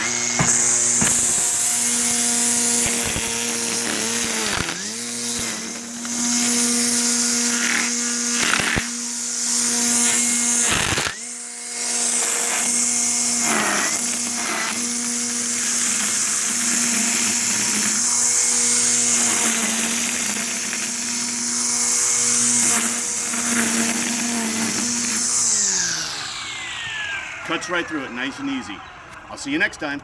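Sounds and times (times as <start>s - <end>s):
line cutting grass: 0.0s - 28.8s
string trimmer whining: 0.0s - 30.0s.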